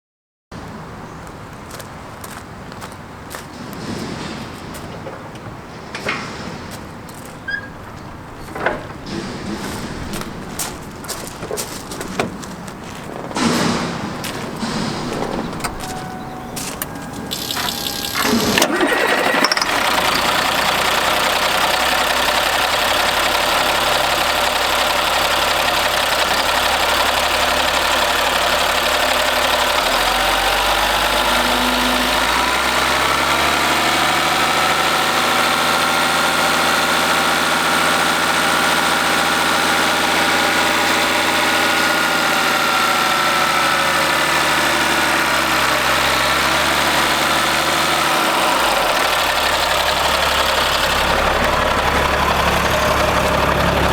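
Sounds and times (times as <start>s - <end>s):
diesel truck engine idling and revving: 0.6s - 53.9s.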